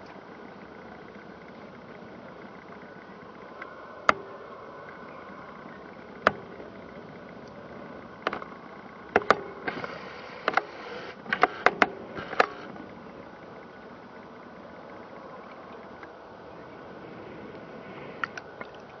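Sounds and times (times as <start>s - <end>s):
distant jet engines whining: 0.0s - 19.0s.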